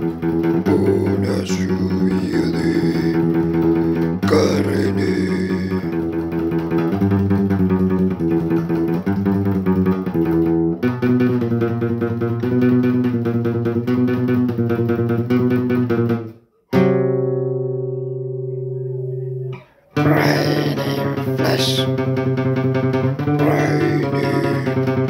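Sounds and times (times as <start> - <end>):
guitar playing chords: 0.0 - 25.0.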